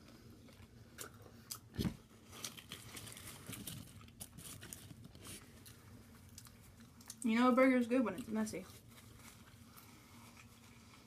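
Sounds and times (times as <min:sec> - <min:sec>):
wet chewing: 0:00.0 - 0:07.4, 0:08.0 - 0:11.0.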